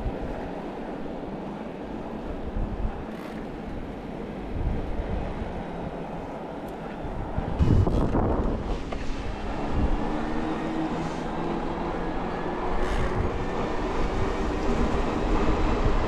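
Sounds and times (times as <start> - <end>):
road rolling noise: 0.0 - 16.0
wind buffeting microphone: 0.0 - 16.0.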